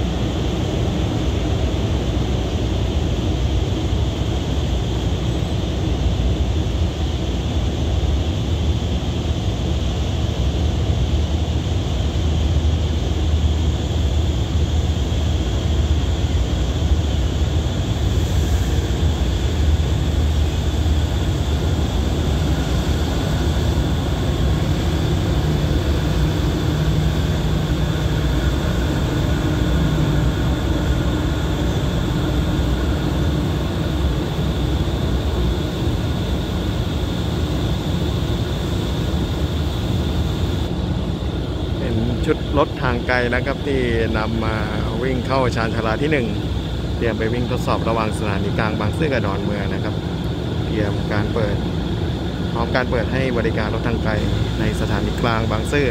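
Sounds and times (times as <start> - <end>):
locomotive diesel engine drone: 0.0 - 55.9.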